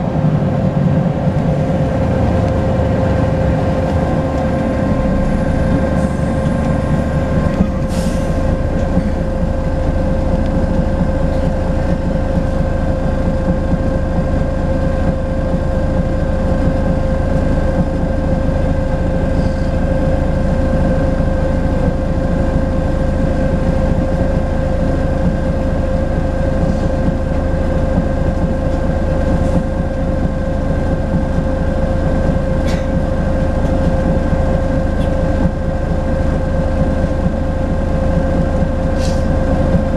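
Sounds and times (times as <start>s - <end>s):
bus engine and road drone: 0.0s - 39.9s.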